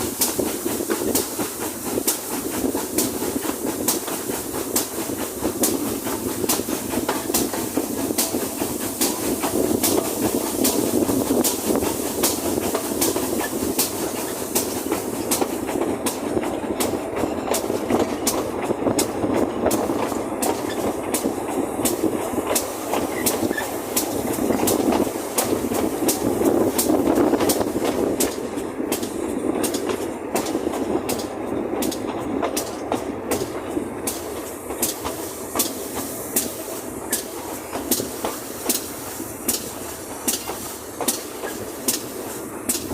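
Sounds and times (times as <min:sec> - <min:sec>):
steam locomotive chuffing: 0:00.0 - 0:42.9.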